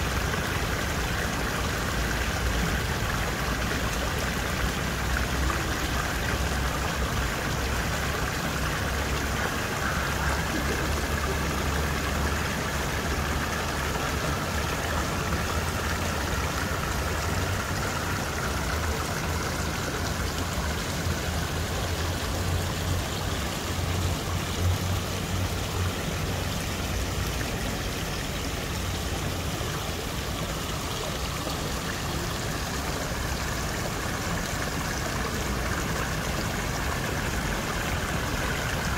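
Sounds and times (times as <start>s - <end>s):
waterfall and stream running: 0.0s - 38.9s.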